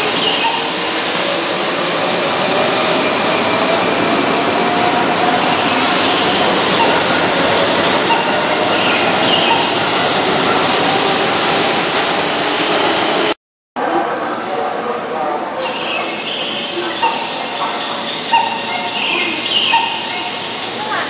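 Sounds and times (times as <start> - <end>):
train wheels rumbling on rails: 0.0 - 13.4, 16.6 - 21.0.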